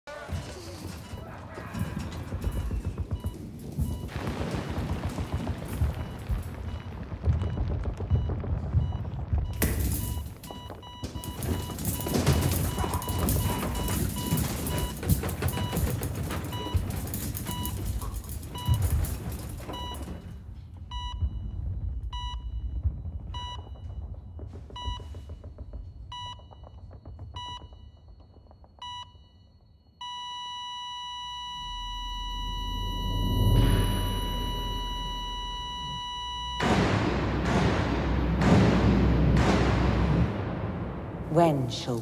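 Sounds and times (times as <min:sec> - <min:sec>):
heart monitor beeping: 0:00.1 - 0:04.2, 0:05.2 - 0:36.8
continuous flatline tone: 0:00.1 - 0:36.8.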